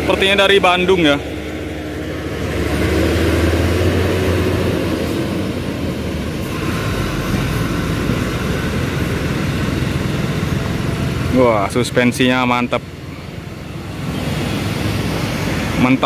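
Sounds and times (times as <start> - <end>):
bus diesel engine passing: 0.0 - 16.0.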